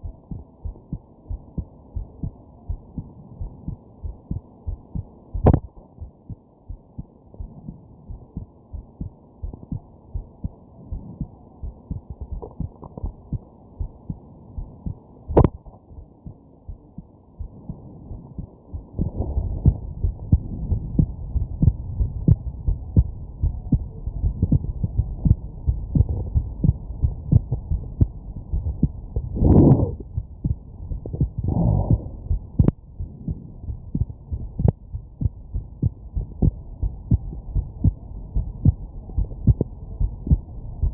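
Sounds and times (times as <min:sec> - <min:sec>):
heartbeat thumps: 0:00.0 - 0:40.9
long muffled sounds: 0:00.0 - 0:40.9.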